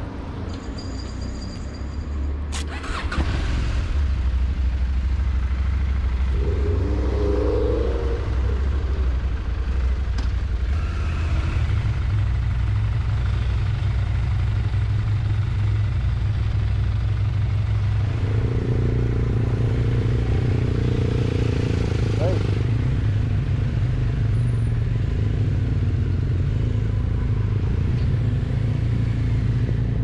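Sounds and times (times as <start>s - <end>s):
wind and road noise: 0.0s - 30.0s
motorcycle engine: 2.8s - 30.0s.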